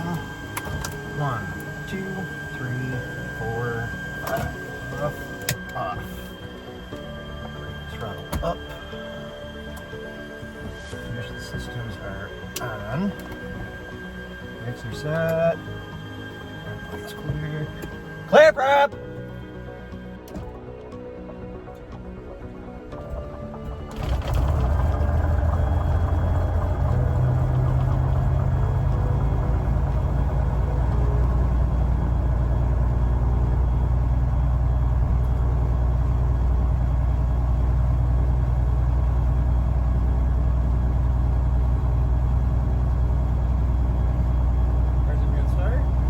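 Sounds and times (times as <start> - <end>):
piston aircraft engine running: 0.0 - 21.0, 22.2 - 46.0.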